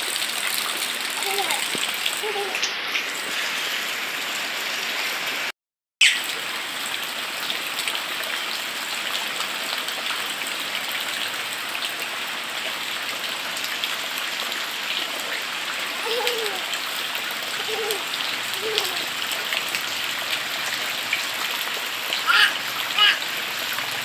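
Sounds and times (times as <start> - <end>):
steady rain falling: 0.0 - 5.5, 6.2 - 24.0.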